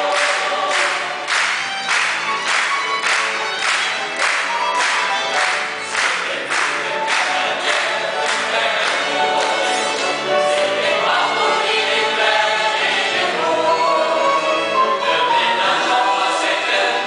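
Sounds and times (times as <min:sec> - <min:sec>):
mixed choir singing in harmony: 0:00.0 - 0:02.6, 0:03.7 - 0:17.0.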